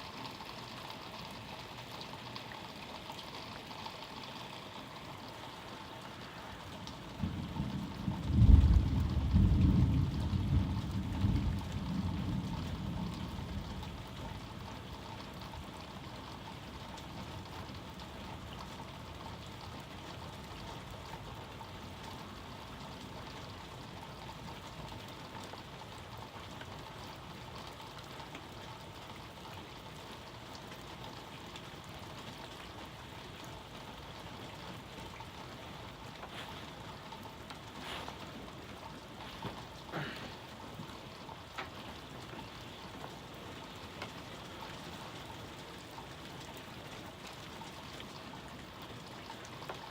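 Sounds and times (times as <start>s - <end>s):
sharp water drips: 0.0s - 49.9s
steady rain falling: 0.0s - 49.9s.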